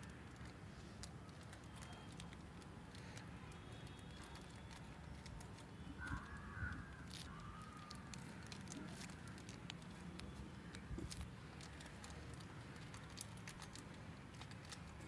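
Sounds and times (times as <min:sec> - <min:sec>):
plastic bag crinkling: 0:00.2 - 0:15.0.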